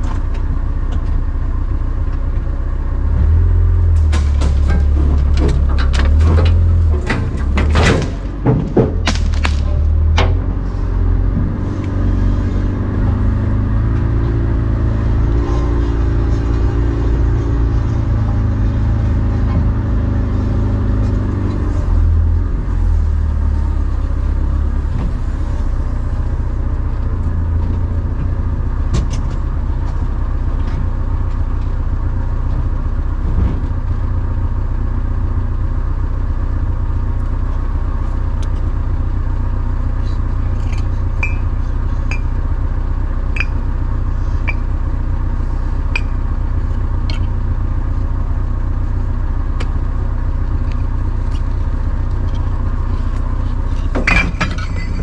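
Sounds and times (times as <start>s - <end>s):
vehicle engine droning: 0.0s - 55.0s.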